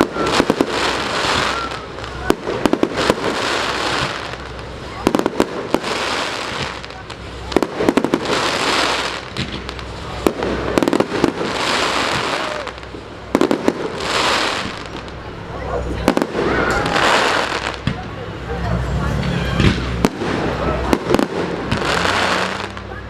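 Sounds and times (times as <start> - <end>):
fireworks hissing sizzle: 0.0 - 23.0
fireworks popping and crackling: 0.0 - 23.0.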